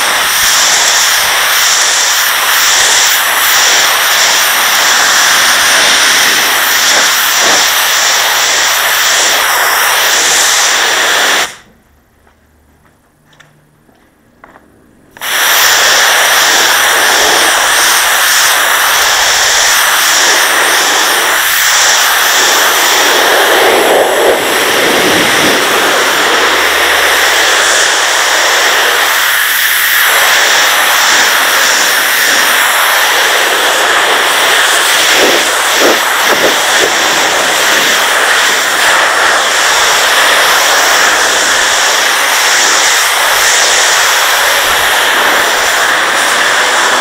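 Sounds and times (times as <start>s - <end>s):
pressure washer jet hissing: 0.0s - 11.7s, 15.1s - 47.0s.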